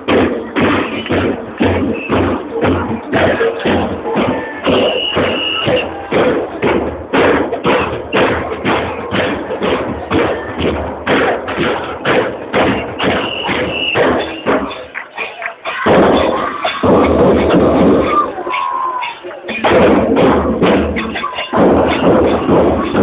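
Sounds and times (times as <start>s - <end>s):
percussion drumming a steady beat: 0.0s - 23.0s.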